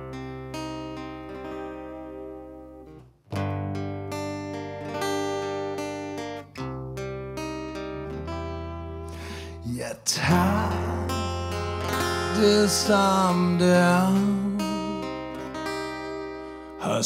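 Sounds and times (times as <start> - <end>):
acoustic guitar strumming: 0.0 - 17.0
electric bass guitar: 0.0 - 17.0.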